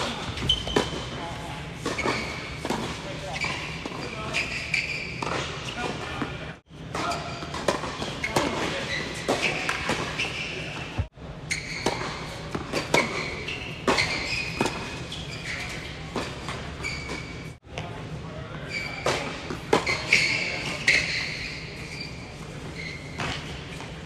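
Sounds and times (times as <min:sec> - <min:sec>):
sneaker squeaks: 0:00.0 - 0:17.6, 0:18.5 - 0:24.0.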